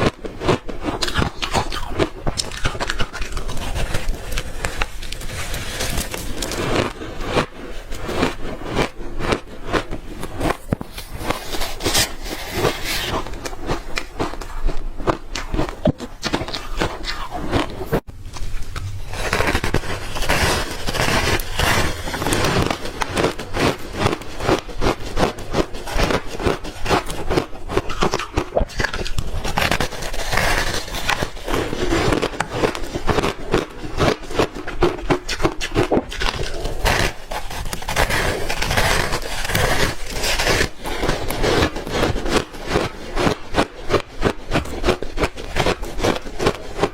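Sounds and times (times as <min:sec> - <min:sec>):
crunching ice chunks: 0:00.0 - 0:18.0, 0:19.1 - 0:46.9.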